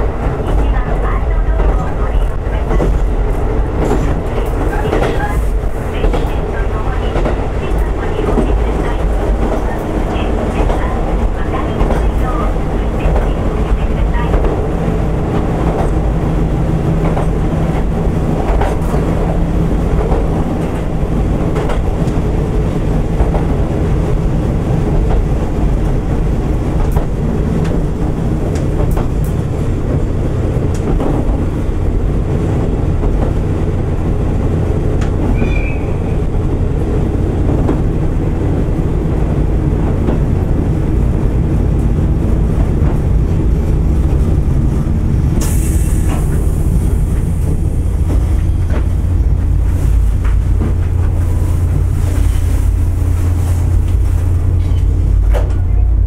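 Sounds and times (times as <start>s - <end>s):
railcar engine drone: 0.0s - 56.0s
wheels rumbling on rails: 0.0s - 56.0s.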